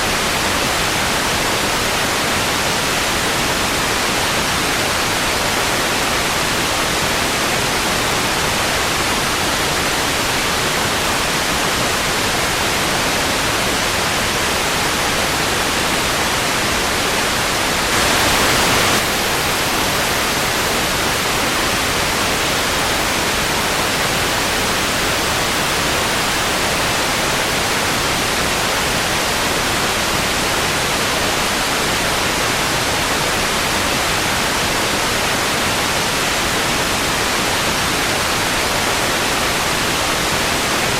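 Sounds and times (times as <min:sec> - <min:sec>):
tv static hiss: 0:00.0 - 0:40.9.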